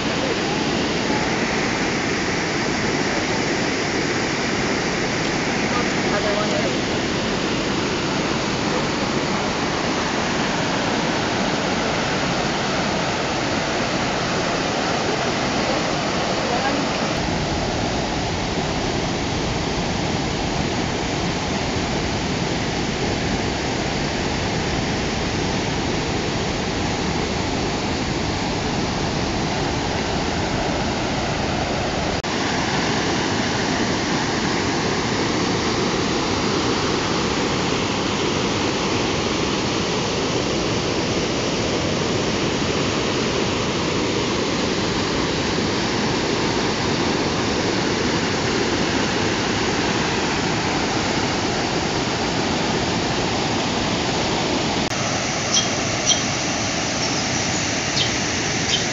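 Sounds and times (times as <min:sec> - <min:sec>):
creek water rushing over rocks: 0:00.0 - 0:58.9.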